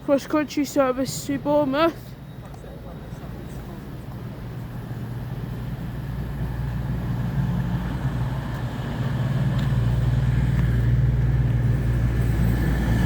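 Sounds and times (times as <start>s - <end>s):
train low steady drone: 0.0s - 13.0s.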